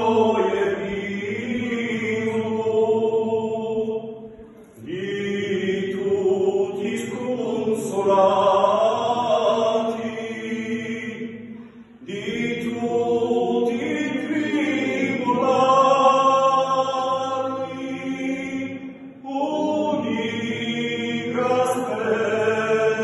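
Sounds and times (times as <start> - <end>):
men singing polyphonic chant: 0.0 - 4.1, 4.8 - 23.0.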